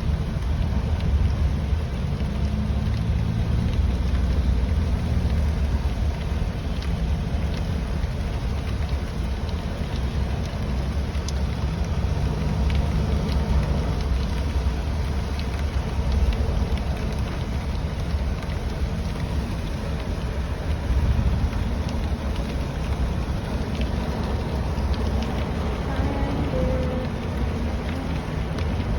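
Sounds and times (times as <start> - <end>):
car rumbling on road: 0.0 - 28.9
rain hiss: 0.0 - 28.9
raindrops ticking: 0.0 - 28.9.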